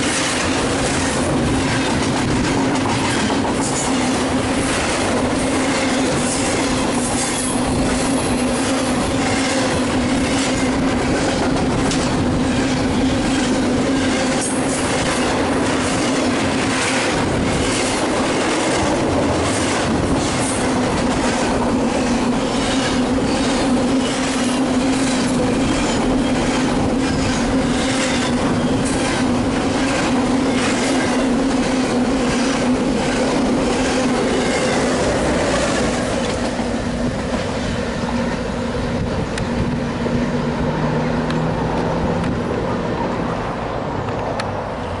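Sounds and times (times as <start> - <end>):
train wheels clicking: 0.0 - 43.3
freight train rumbling past: 0.0 - 45.0.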